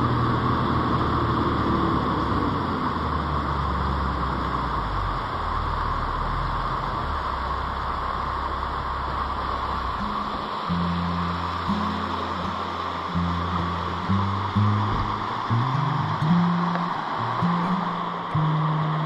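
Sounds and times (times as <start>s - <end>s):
steady hiss: 0.0s - 19.0s
vehicle engine at low revs: 0.0s - 19.0s.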